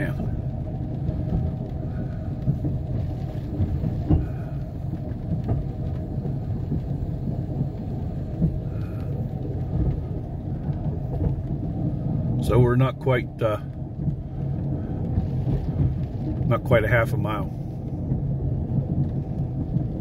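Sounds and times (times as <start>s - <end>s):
truck rumbling on railroad track: 0.0s - 20.0s.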